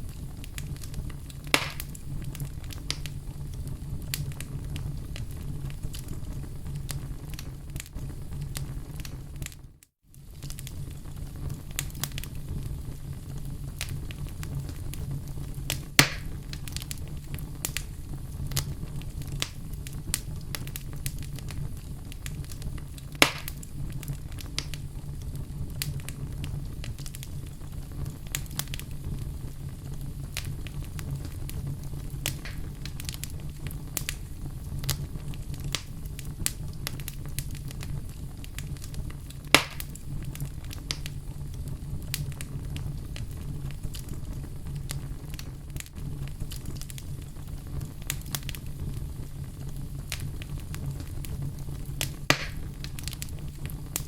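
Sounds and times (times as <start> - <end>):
loud sharp pops of fire: 0.0 - 9.6, 10.2 - 54.0
wood fire crackling: 0.0 - 54.0.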